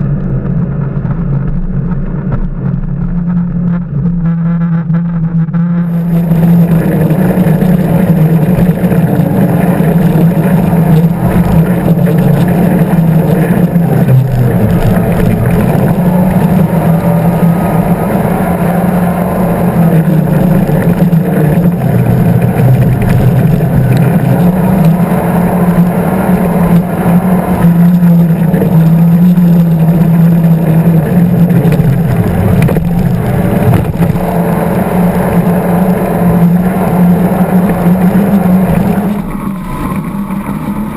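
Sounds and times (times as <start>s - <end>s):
boat engines droning: 0.0s - 40.9s
rushing wind and water: 5.9s - 40.9s.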